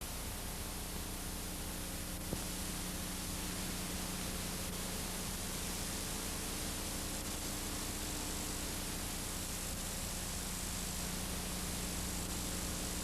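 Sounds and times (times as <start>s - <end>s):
static hiss: 0.1s - 13.0s.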